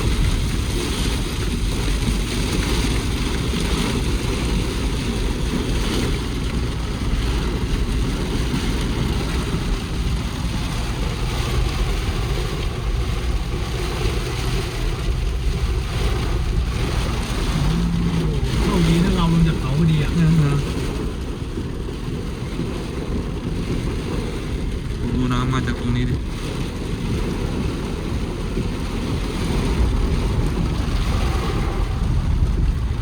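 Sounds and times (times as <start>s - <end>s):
steady rushing noise: 0.0s - 33.0s
wind rumble on microphone: 0.0s - 33.0s.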